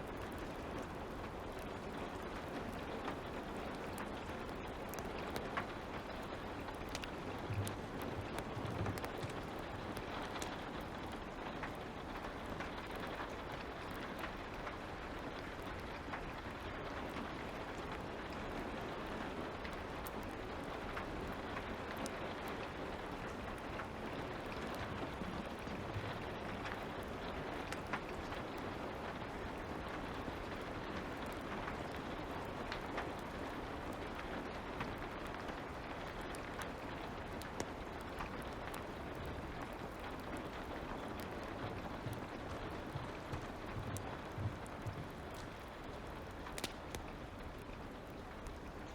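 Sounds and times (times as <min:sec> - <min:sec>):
light rain: 0:00.0 - 0:48.9
wood fire crackling: 0:00.0 - 0:48.9.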